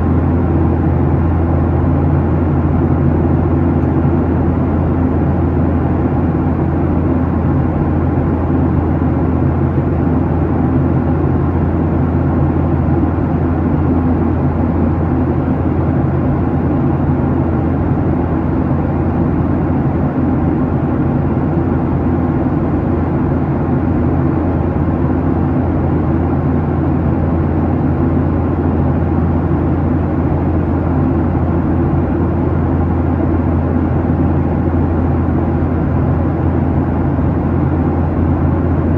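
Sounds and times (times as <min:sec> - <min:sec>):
airplane cabin engine hum: 0:00.0 - 0:38.9.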